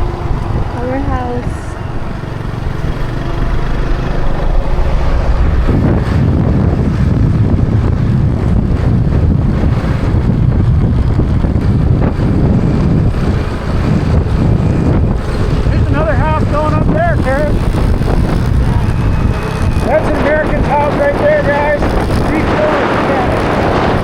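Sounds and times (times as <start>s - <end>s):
motorcycle engine running: 0.0s - 24.0s
wind buffeting on microphone: 0.0s - 24.0s.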